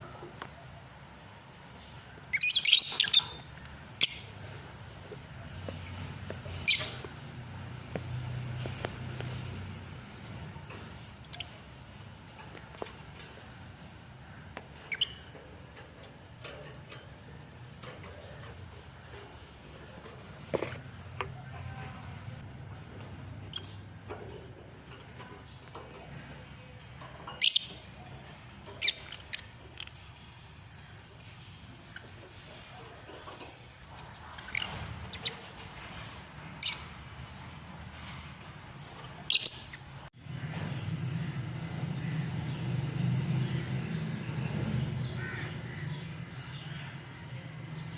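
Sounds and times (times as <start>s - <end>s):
lovebirds chirping: 1.0s - 24.8s, 25.4s - 40.1s.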